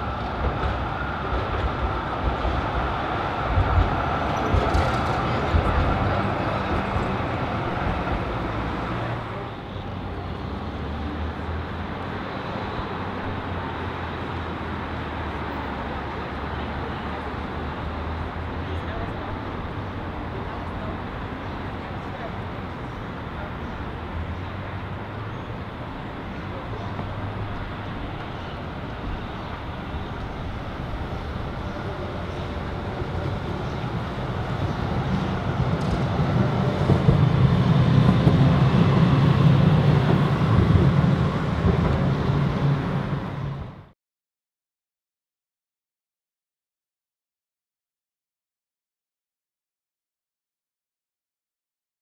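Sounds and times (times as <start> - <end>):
cars passing: 0.0 - 43.9
tram passing: 0.0 - 43.9
road traffic: 0.0 - 44.0.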